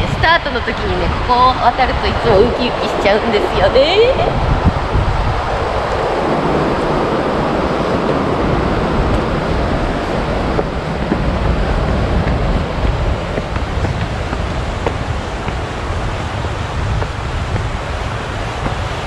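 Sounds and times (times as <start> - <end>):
river rushing: 0.0 - 19.0
wind buffeting microphone: 0.0 - 19.0.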